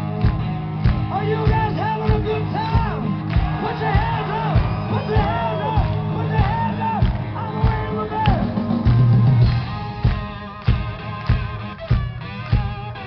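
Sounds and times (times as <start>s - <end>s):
bass: 0.0s - 13.0s
electric guitar: 0.0s - 13.0s
steady drum beat: 0.0s - 13.0s.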